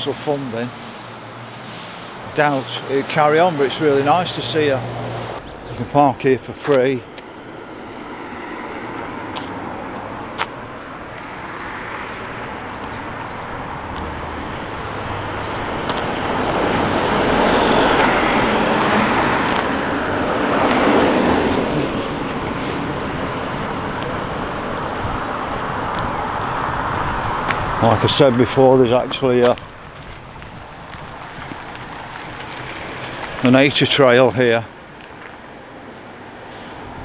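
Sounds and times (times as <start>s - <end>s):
cars passing on street: 0.0s - 37.0s.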